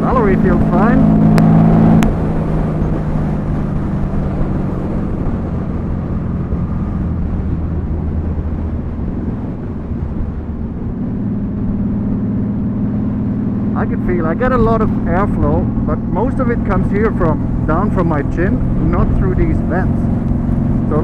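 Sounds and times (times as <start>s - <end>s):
motorcycle engine running: 0.0s - 21.0s
wind noise: 0.0s - 21.0s.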